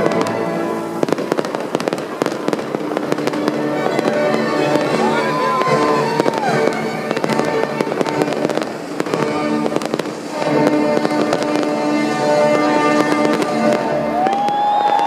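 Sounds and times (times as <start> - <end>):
music playing: 0.0 - 14.9
fireworks bangs and crackles: 0.0 - 15.0.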